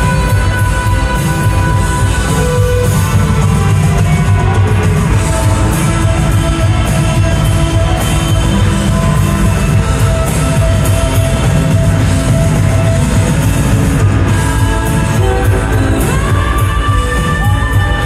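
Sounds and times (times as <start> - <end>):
drums with cymbal hits: 0.0 - 18.0
electric guitars: 0.0 - 18.0
keyboards: 0.0 - 18.0.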